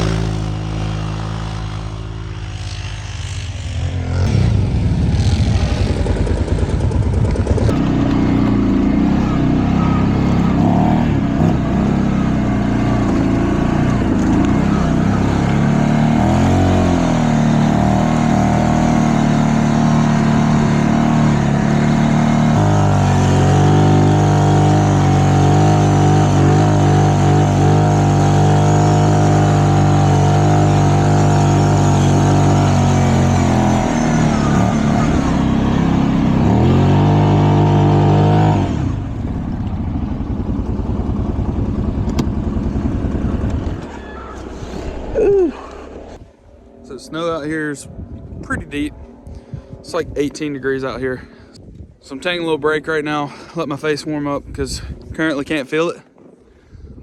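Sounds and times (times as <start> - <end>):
quad bike engine revving: 0.0 - 46.2.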